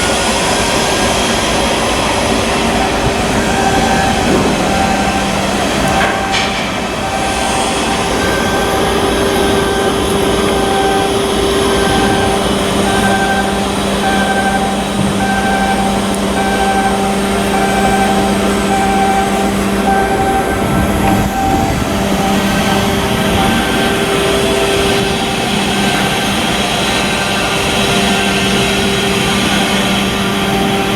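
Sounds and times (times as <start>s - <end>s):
machinery humming: 0.0s - 30.9s
warning beeper: 2.2s - 30.9s.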